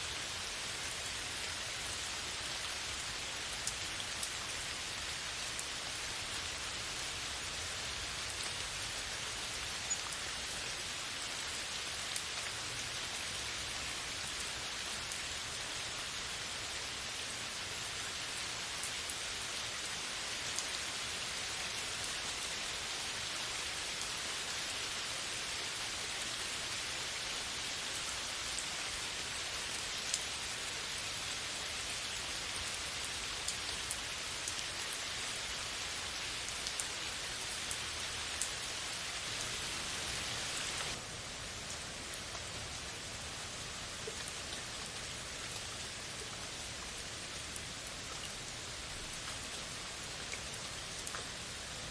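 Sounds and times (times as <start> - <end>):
rain on leafy canopy: 0.0 - 51.9.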